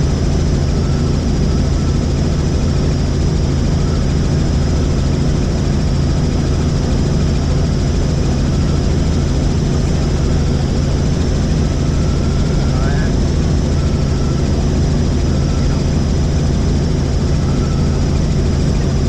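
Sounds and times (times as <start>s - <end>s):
helicopter rotor and engine drone: 0.0s - 19.0s.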